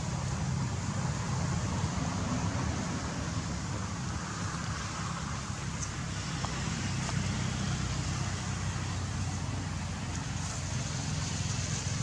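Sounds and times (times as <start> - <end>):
constant hiss: 0.0 - 12.0.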